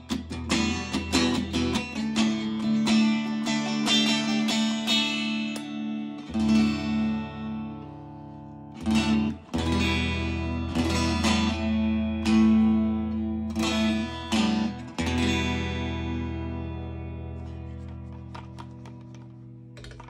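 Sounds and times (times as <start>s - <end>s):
electric guitar strummed chords: 0.0s - 20.0s.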